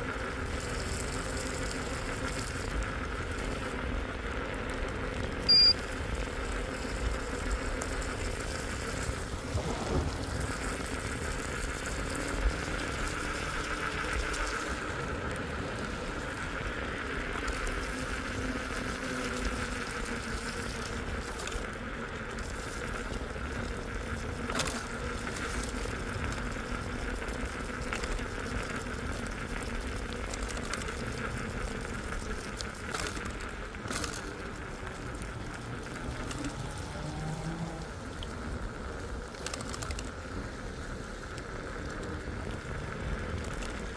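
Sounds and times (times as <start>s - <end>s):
constant running hum: 0.0s - 43.9s
rain and road noise: 0.0s - 43.9s.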